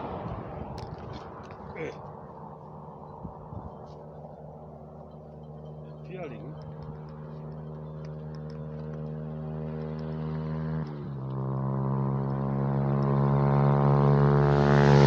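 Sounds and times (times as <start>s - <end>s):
vehicle engine approaching: 0.0s - 15.0s.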